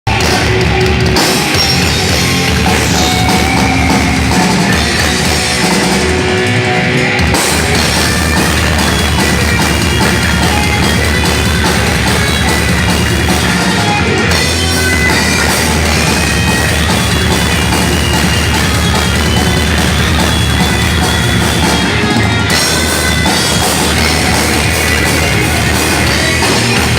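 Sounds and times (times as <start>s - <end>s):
thrash metal band playing: 0.1s - 26.9s.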